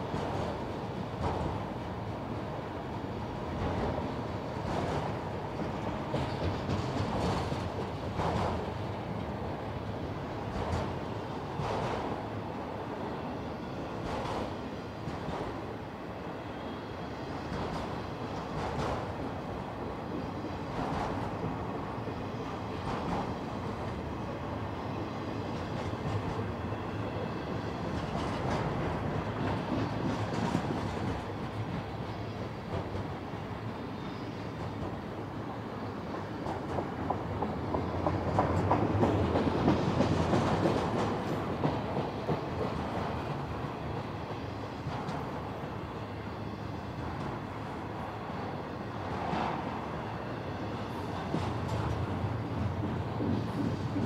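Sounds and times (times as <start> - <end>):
freight train rolling on rails: 0.0 - 54.0.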